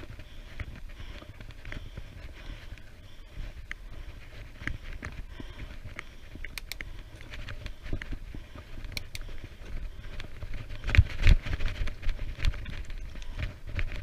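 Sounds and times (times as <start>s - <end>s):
bicycle clicks and rattles: 0.0s - 14.0s
wind rumbling on microphone: 0.0s - 14.0s.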